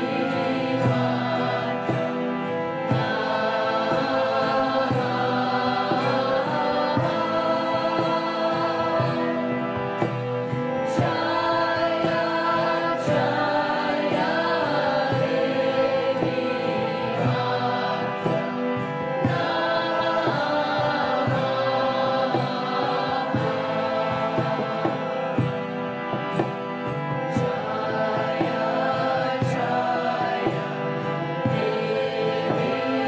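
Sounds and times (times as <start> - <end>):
choir-like singing music: 0.0 - 33.0.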